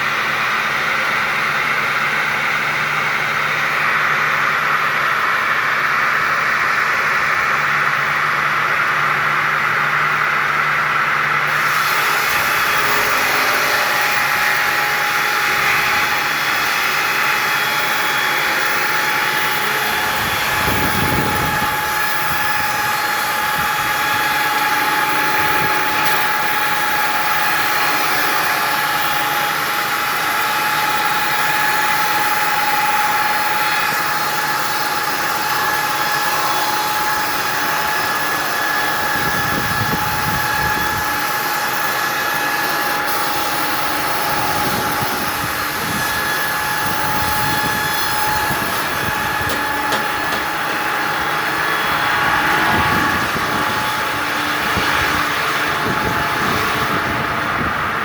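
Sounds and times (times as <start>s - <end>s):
sawmill machine whining: 0.0s - 58.0s.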